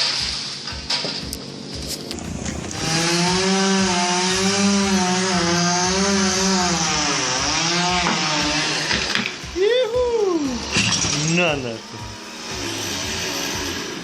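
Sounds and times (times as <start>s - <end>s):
chainsaw cutting at high revs: 0.1s - 14.0s.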